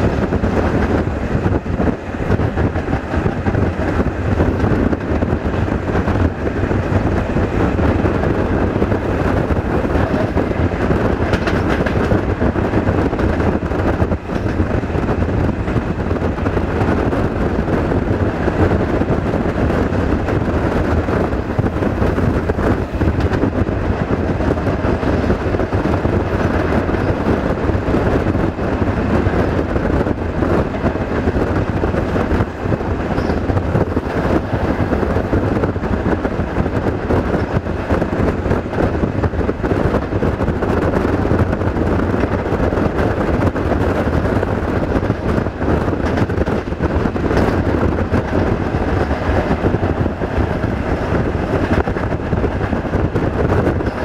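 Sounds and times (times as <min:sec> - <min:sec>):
train engine drone: 0:00.0 - 0:54.0
wheels rumbling on rails: 0:00.0 - 0:54.0.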